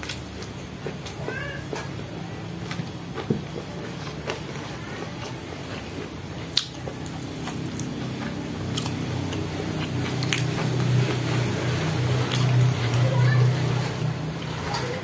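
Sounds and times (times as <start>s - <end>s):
chewing and biting food: 0.0s - 15.0s
low steady hum: 0.0s - 15.0s.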